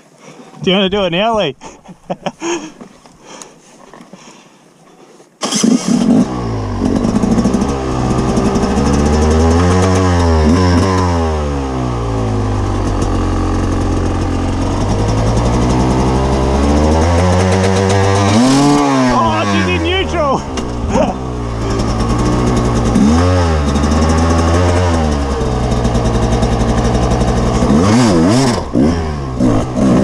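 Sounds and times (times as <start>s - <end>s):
dirt bike engine revving: 5.4s - 30.0s.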